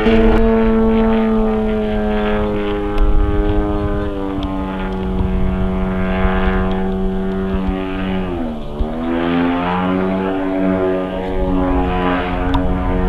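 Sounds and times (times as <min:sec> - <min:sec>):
model plane engine in flight: 0:00.0 - 0:13.0.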